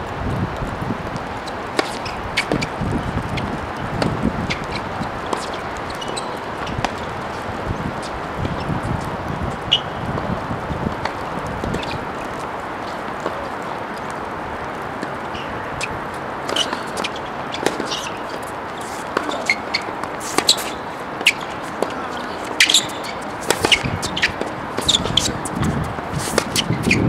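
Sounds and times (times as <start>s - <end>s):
steady background hiss: 0.0s - 27.0s
tennis balls struck and bouncing: 1.2s - 27.0s.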